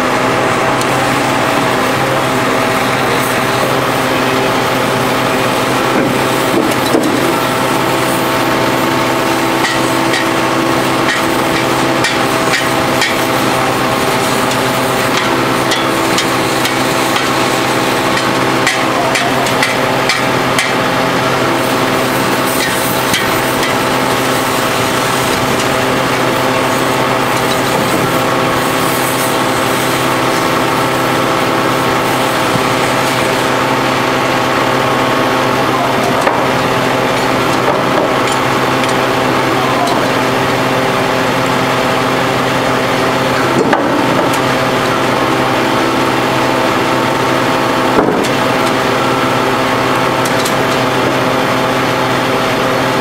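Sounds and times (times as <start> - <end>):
hydraulic power unit running: 0.0 - 53.0.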